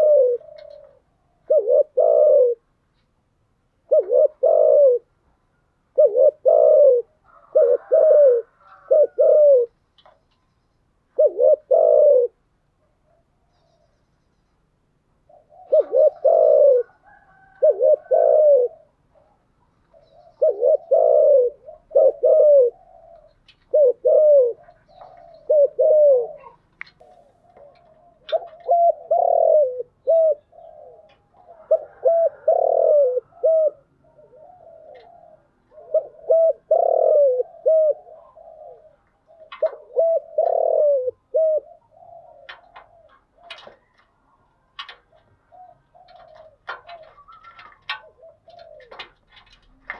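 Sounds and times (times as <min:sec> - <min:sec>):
dove cooing: 0:00.0 - 0:02.8, 0:03.7 - 0:10.3, 0:11.0 - 0:14.5, 0:15.2 - 0:49.9.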